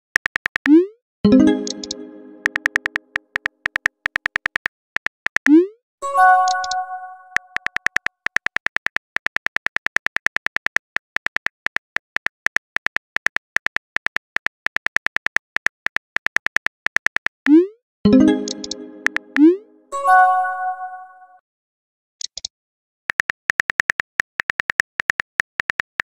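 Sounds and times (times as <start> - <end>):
keyboard typing clicks: 0.1 - 5.6, 6.3 - 19.7, 23.1 - 26.0.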